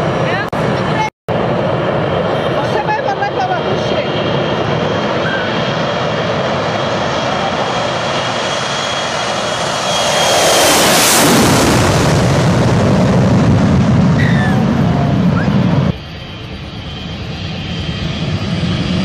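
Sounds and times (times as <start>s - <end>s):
faint high jet whine: 0.0s - 19.0s
jet airliner taking off: 0.0s - 19.0s.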